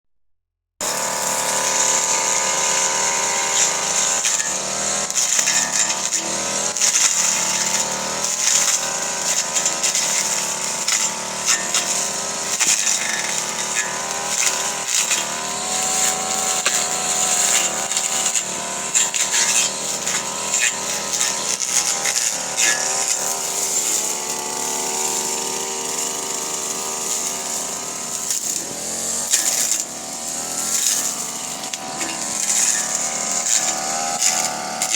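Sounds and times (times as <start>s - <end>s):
blade cracking against stalks: 0.8s - 34.9s
brush cutter engine running: 0.8s - 34.9s.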